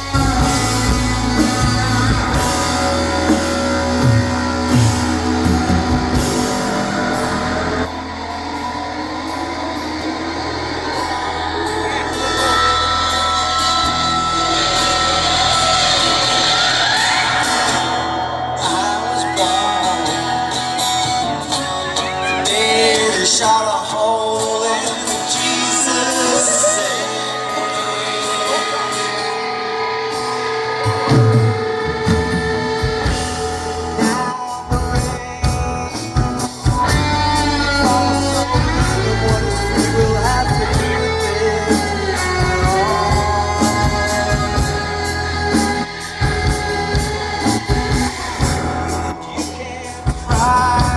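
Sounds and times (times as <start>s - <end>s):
bass: 0.0s - 50.9s
drums: 0.0s - 50.9s
guitar: 0.0s - 50.9s
person singing: 0.0s - 50.9s.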